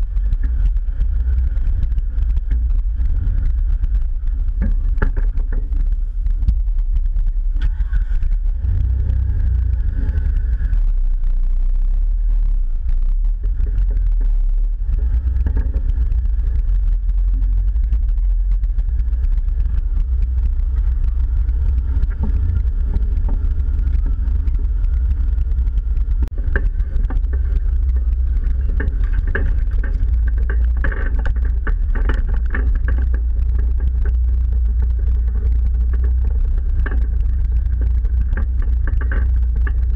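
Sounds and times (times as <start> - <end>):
knocks and rattles over rocks: 0.0 - 10.8, 13.4 - 39.9
engine low rumble: 0.0 - 39.9.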